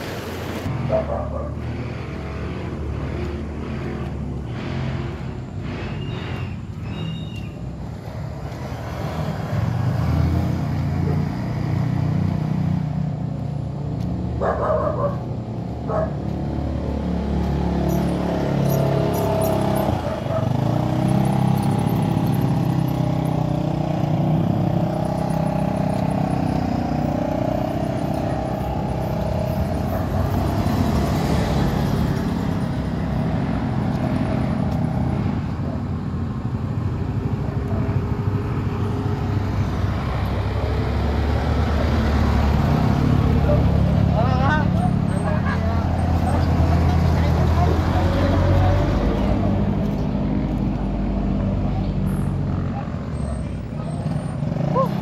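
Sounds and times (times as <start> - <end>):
road noise: 0.0 - 55.0.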